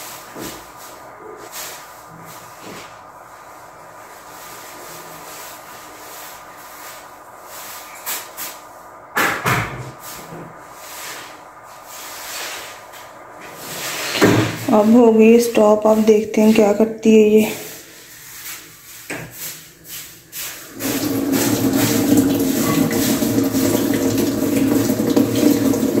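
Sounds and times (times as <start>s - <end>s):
washing machine spinning: 0.0s - 16.5s, 17.7s - 26.0s
faint steady hum: 0.0s - 26.0s.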